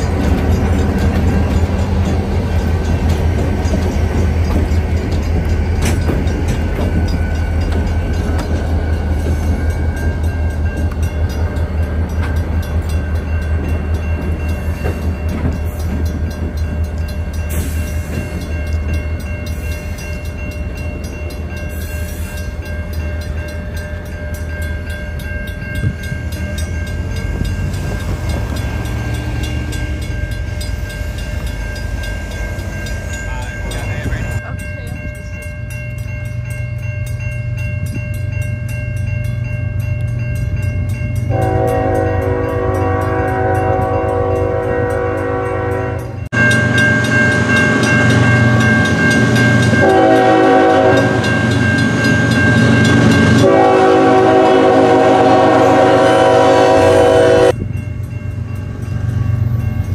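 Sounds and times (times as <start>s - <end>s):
diesel locomotive rumble: 0.0s - 59.9s.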